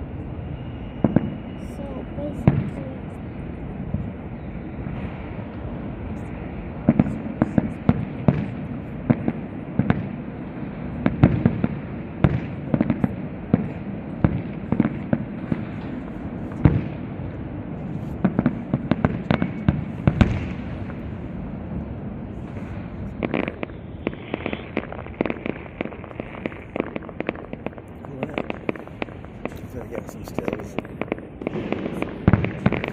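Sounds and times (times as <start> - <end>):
steady background noise: 0.0 - 32.9
fireworks bangs and pops: 4.9 - 32.9.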